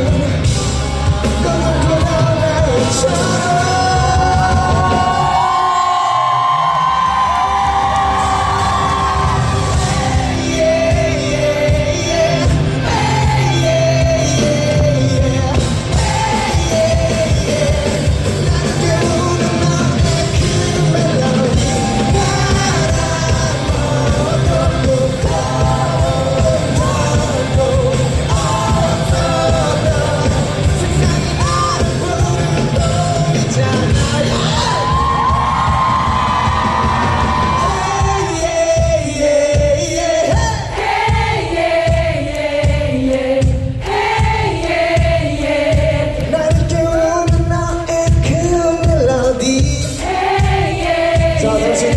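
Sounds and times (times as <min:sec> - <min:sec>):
man singing live: 0:00.0 - 0:40.8, 0:45.0 - 0:50.1, 0:51.2 - 0:51.9
band playing bass and drums: 0:00.0 - 0:51.9.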